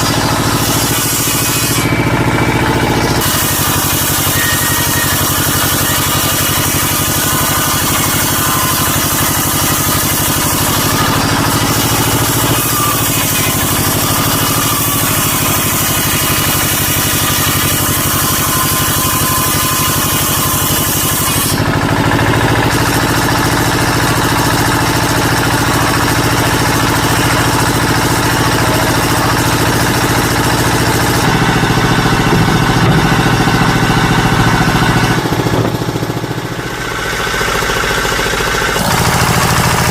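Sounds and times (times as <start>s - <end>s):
woodworking power tool running: 0.0s - 39.9s.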